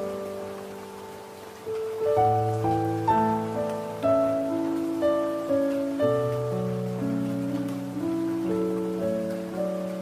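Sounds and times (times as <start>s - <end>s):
rain patter: 0.0s - 10.0s
slow calm piano music: 0.0s - 10.0s.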